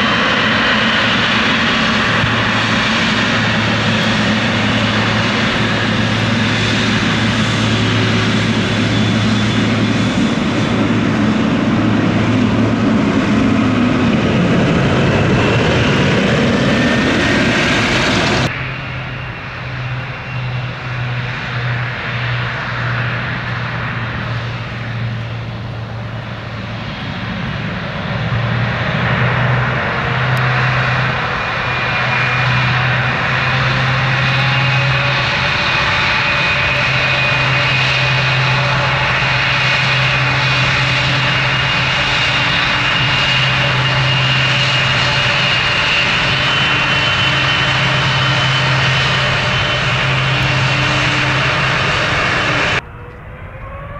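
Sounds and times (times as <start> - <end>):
jet engines running loud: 0.0 - 53.9.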